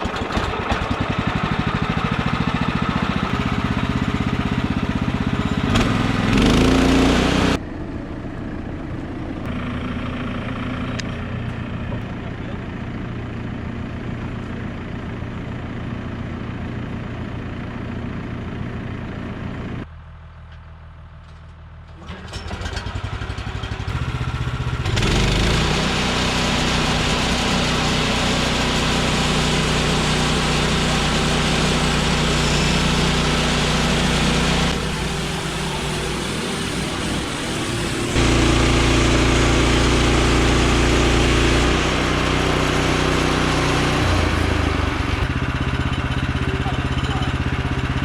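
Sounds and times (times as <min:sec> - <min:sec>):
petrol engine running: 0:00.0 - 0:19.9, 0:21.9 - 0:48.0.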